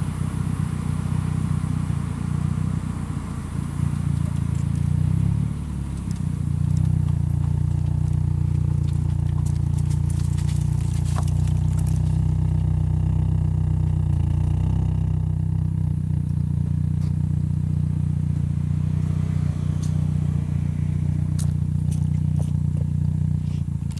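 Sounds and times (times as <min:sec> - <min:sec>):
car engine droning: 0:00.0 - 0:23.9.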